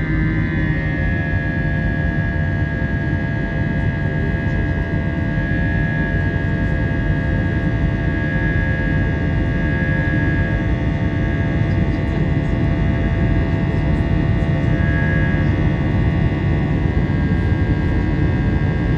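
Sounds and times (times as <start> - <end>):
jet engines with high whine: 0.0 - 18.9.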